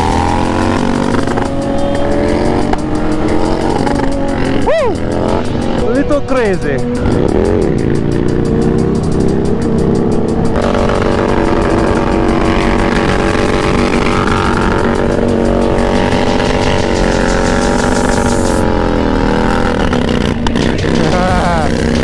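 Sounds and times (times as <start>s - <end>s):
motorcycle engine running hard: 0.0s - 22.0s.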